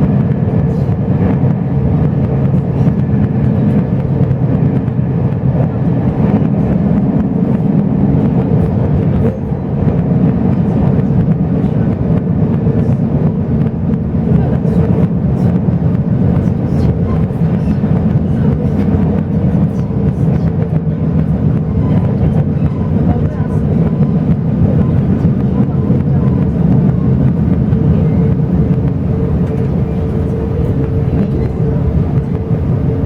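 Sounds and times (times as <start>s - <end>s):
train coach rumbling on track: 0.0s - 33.0s.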